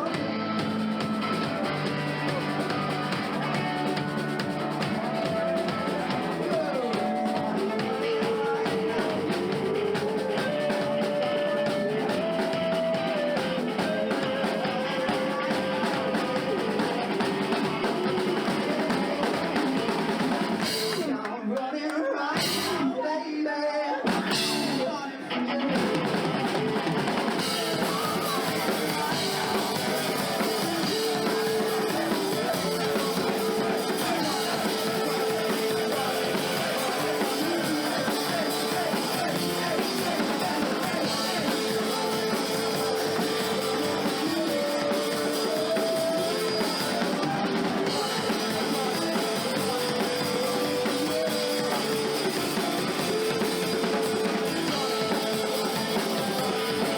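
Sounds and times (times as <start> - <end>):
bass guitar: 0.0 - 21.2, 24.1 - 56.9
electric guitar: 0.0 - 21.3, 24.0 - 56.9
drum kit: 0.0 - 21.4, 22.4 - 22.9, 24.1 - 25.0, 25.8 - 56.9
person singing: 0.0 - 56.9.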